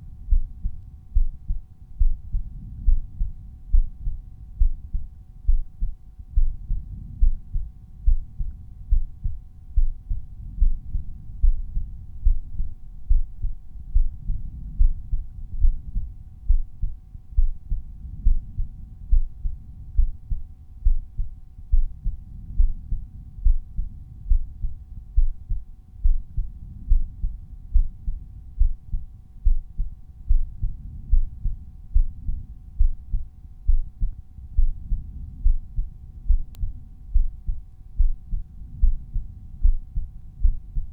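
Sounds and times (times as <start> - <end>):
faint steady hum: 0.0 - 40.9
heartbeat: 0.0 - 40.9.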